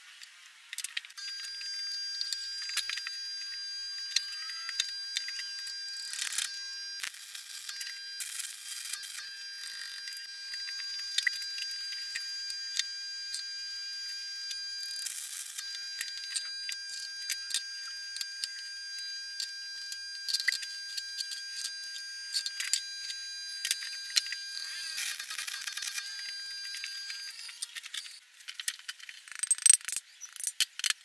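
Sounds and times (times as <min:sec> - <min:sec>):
high-pitched whine: 0:01.2 - 0:28.2
welding arc crackling: 0:01.2 - 0:28.2.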